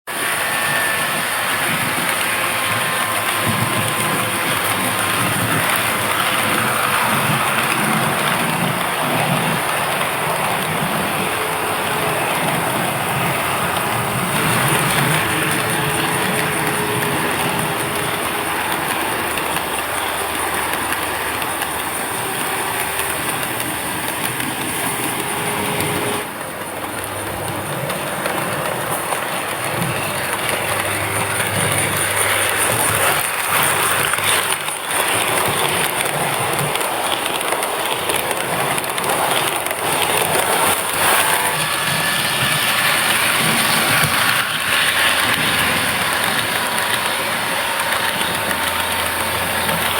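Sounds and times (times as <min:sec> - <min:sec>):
model train wheels rattling on rail: 0:00.1 - 0:49.9.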